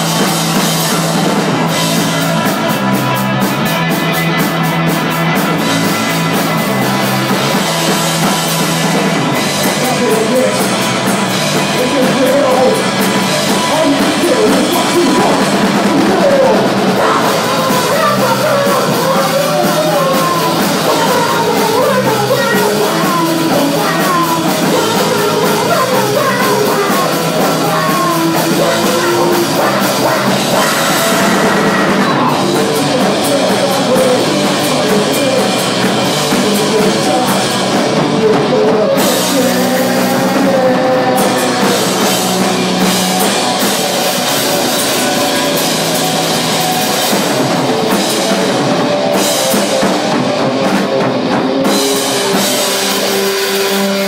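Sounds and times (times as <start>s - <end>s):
rock band playing: 0.0s - 54.0s
person singing: 5.6s - 54.0s.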